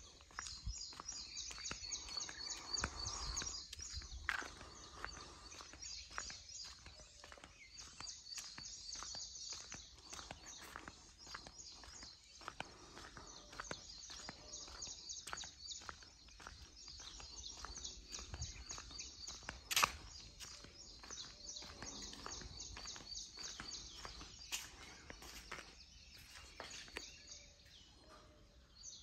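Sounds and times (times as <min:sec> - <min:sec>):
footsteps on paving: 0:00.0 - 0:27.8
birds chirping: 0:00.0 - 0:29.0.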